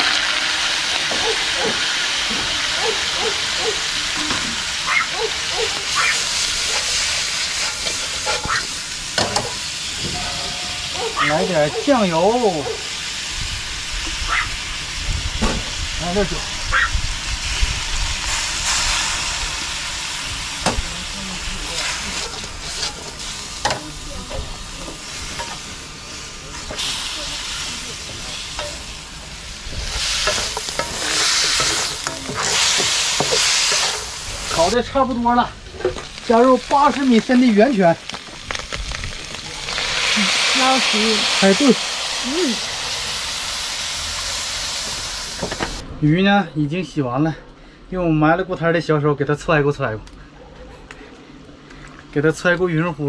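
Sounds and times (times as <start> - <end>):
chicken sizzling in hot oil: 0.0 - 34.8, 35.8 - 45.8.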